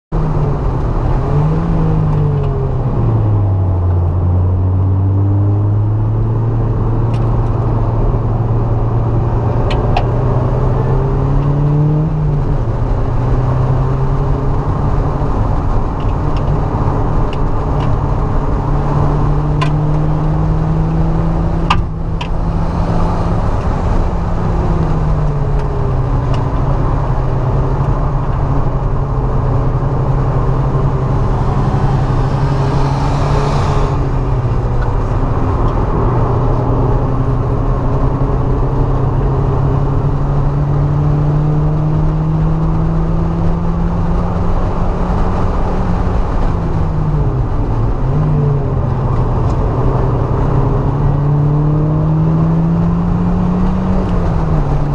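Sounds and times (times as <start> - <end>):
wind and road noise: 0.1 - 54.9
car engine revving: 0.2 - 54.9.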